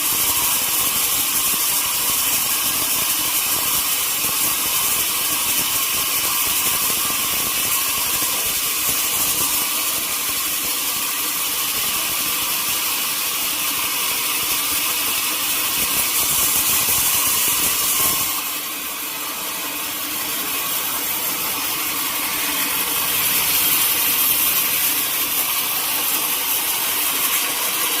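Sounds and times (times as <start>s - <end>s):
sawmill saw running: 0.0s - 28.0s.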